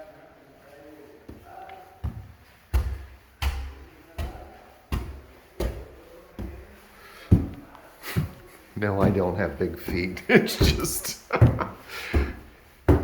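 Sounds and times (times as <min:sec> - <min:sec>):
heavy footsteps: 0:01.3 - 0:13.0.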